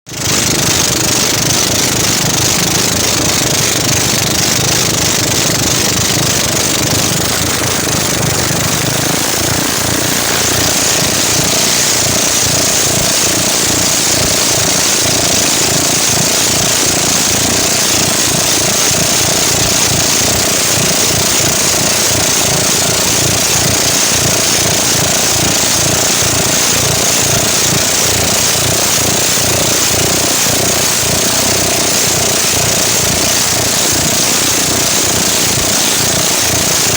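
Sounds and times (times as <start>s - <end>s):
scooter engine running: 0.1s - 36.9s
steady whine: 0.2s - 36.9s.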